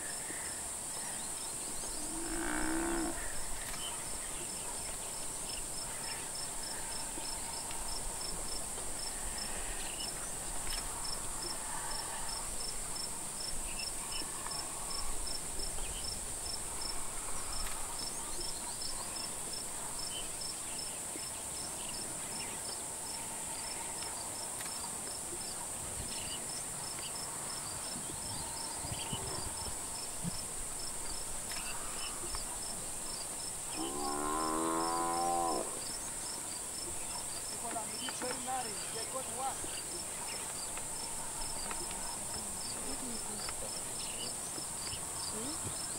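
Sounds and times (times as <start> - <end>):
insect chirping: 0.0 - 45.9
insects droning: 0.0 - 45.9.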